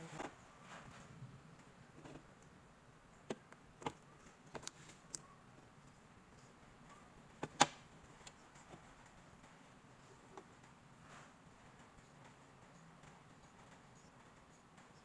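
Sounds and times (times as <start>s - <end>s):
faint clicks and taps: 0.2s - 15.0s.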